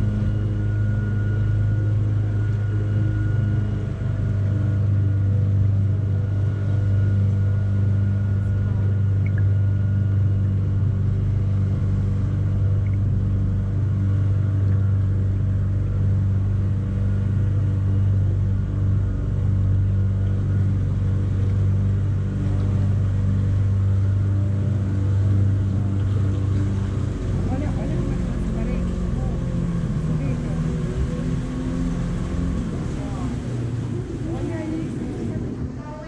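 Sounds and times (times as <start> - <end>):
boat engine humming: 0.0 - 36.0.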